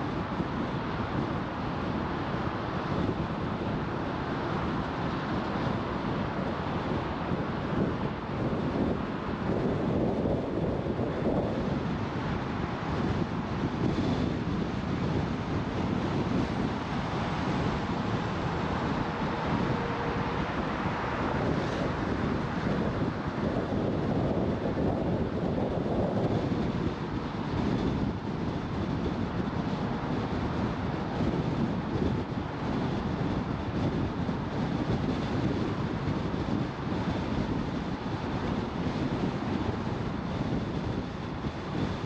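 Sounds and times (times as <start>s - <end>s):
road and tyre noise: 0.0s - 42.0s
wind buffeting microphone: 0.0s - 42.0s.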